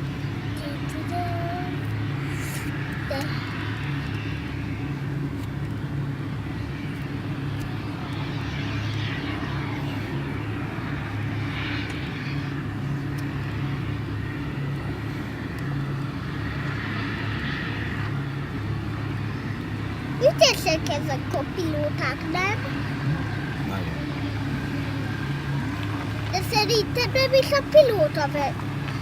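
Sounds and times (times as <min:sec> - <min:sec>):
model aircraft engines passing: 0:00.0 - 0:29.0
steady low hum: 0:00.0 - 0:29.0.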